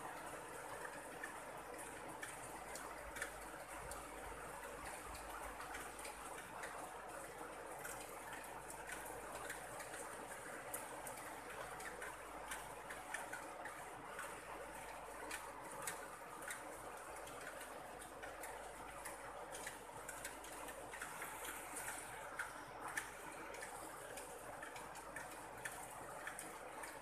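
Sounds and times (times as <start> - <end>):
raindrops ticking on leaves: 0.0 - 27.0
rain hissing on grass: 0.1 - 27.0.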